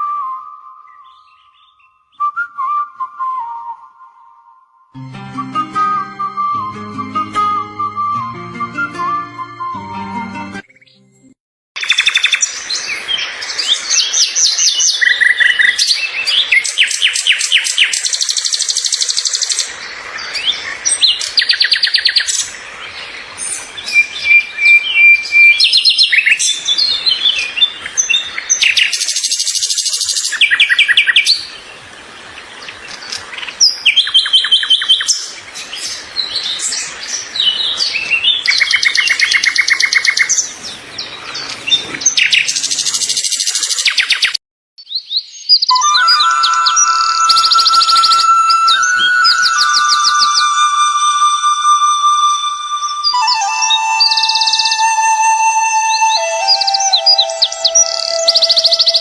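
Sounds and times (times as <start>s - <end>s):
songbirds singing: 0.8s - 2.3s, 11.8s - 51.0s, 52.2s - 59.0s.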